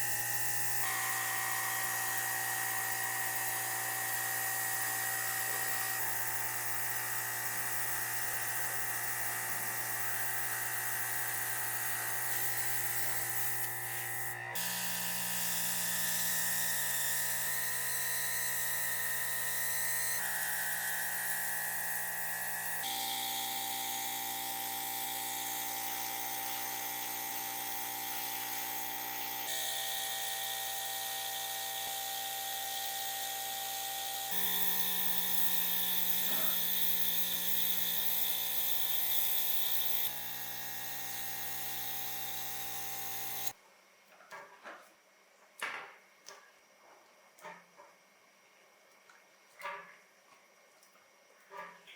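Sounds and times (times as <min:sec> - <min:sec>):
power tool whine: 0:00.0 - 0:43.6.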